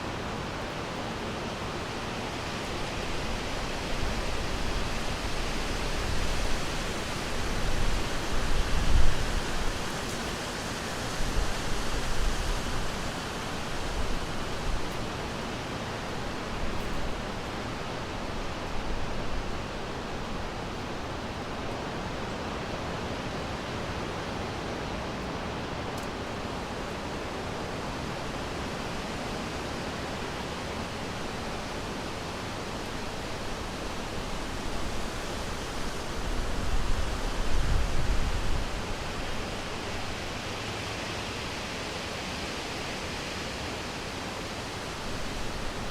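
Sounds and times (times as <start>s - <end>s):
wind through trees: 0.0s - 45.9s.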